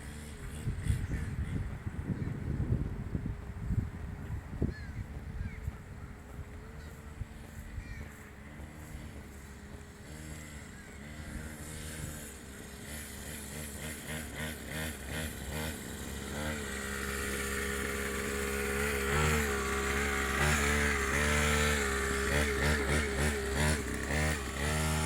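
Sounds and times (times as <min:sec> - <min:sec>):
small dirt bike engine revving: 0:00.0 - 0:25.0.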